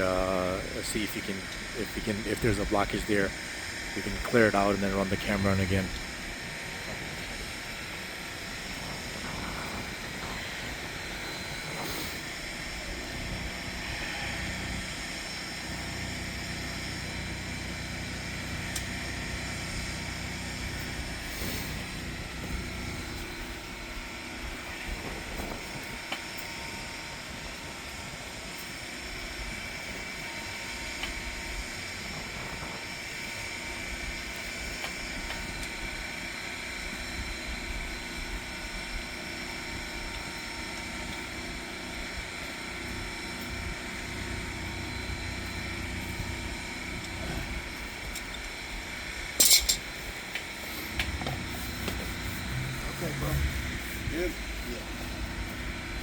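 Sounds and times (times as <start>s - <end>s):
sewer jetter droning: 0.0s - 56.0s.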